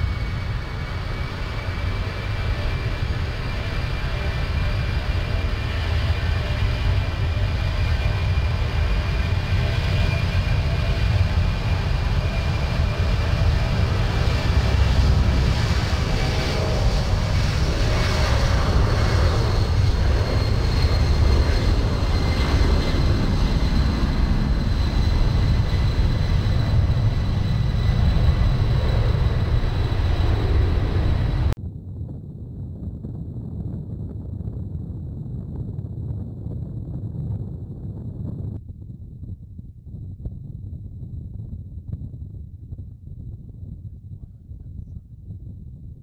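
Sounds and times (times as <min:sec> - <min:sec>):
jet engines rumbling: 0:00.0 - 0:38.6.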